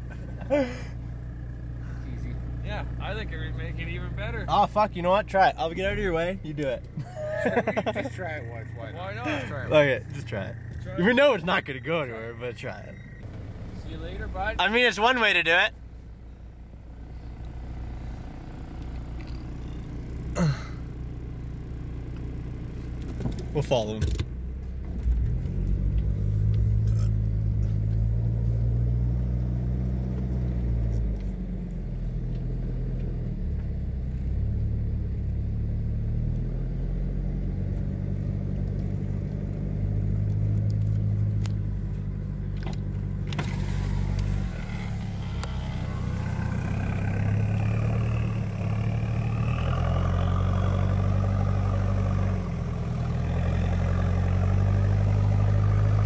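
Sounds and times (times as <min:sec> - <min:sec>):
diesel engine revving: 0:00.0 - 0:15.7, 0:16.8 - 0:21.6, 0:23.5 - 0:56.0.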